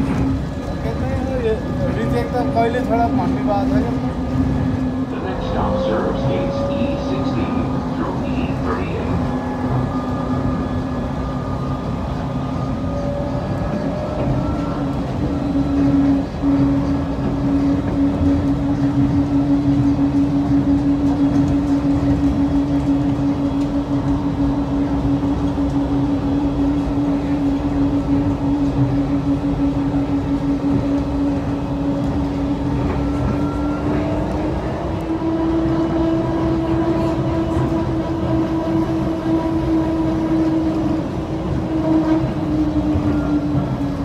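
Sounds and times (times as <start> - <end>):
electric train drive whine: 0.0 - 44.0
low train rumble: 0.0 - 44.0.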